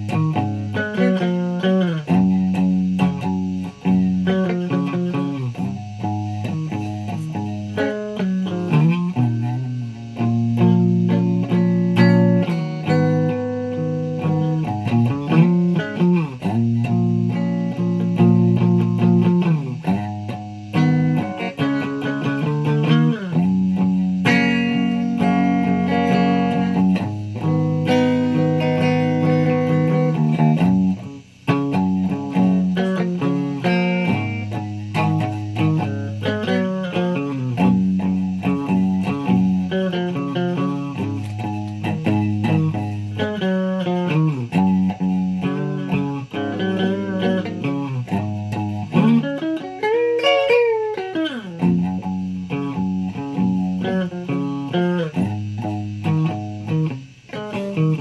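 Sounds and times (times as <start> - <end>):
guitar playing: 0.0 - 58.0.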